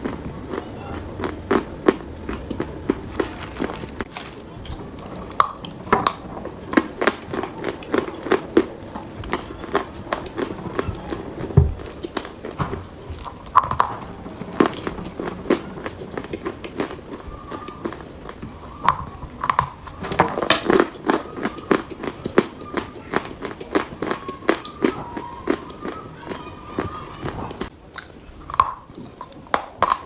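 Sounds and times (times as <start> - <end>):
chalk crunching being chewed: 0.0 - 20.0, 21.0 - 30.0.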